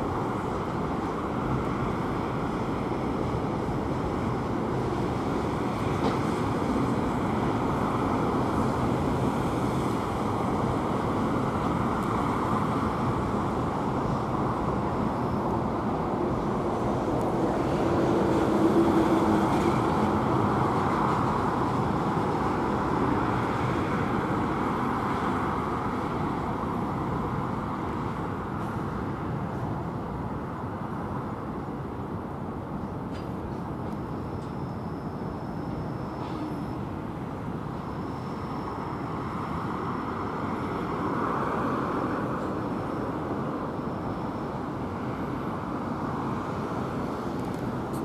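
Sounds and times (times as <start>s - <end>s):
distant freight train rumble: 0.0s - 48.0s
road traffic: 0.0s - 48.0s
train whine: 0.0s - 48.0s.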